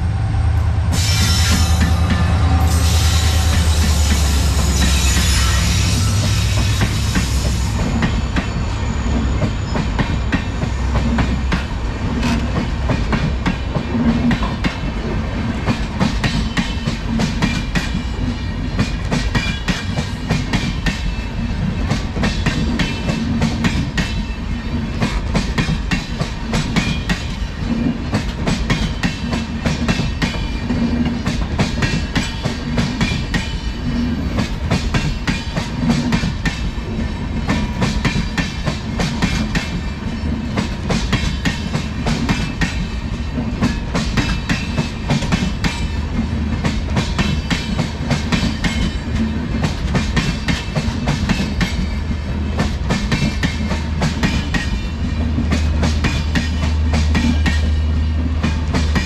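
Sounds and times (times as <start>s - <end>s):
diesel locomotive engine drone: 0.0s - 59.0s
train rumble: 0.0s - 59.0s
train wheels clicking over rail joints: 0.9s - 59.0s.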